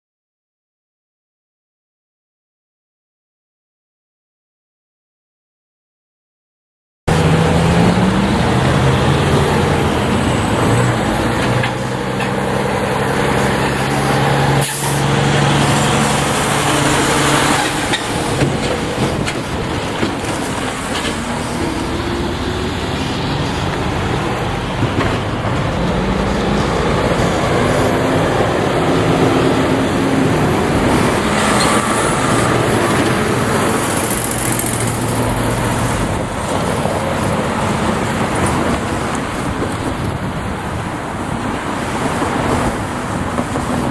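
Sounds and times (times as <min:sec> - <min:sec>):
diesel locomotive engine drone: 0:07.1 - 0:43.9.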